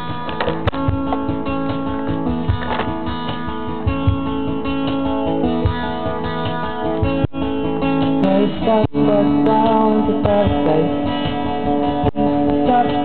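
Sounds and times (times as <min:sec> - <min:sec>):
steady low beat: 0:00.0 - 0:12.8
strummed acoustic guitar: 0:00.0 - 0:13.0.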